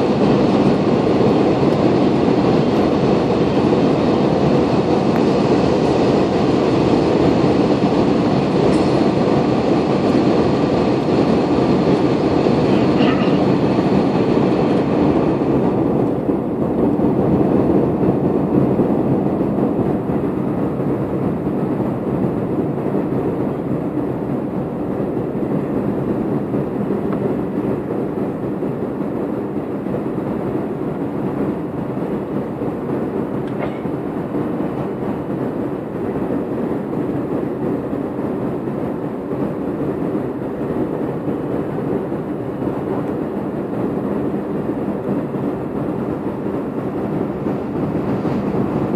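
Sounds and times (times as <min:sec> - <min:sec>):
jet cabin engine noise: 0:00.0 - 0:48.9.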